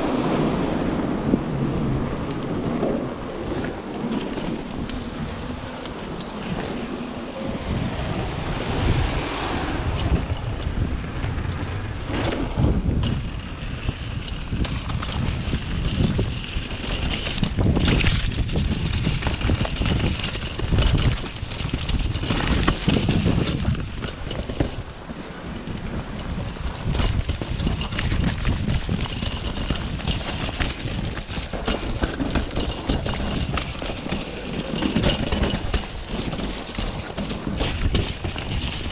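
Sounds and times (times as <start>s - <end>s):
bike thudding over bumps: 0.0s - 38.9s
mountain bike rumbling and rattling: 0.0s - 38.9s
wind buffeting microphone: 0.0s - 38.9s.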